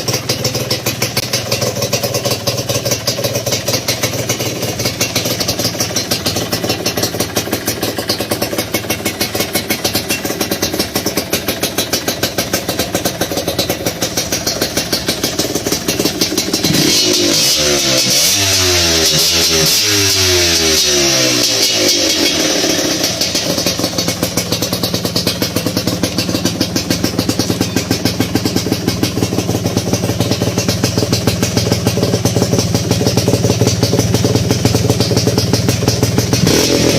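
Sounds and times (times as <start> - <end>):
two-stroke engine idling and revving: 0.0 - 36.9.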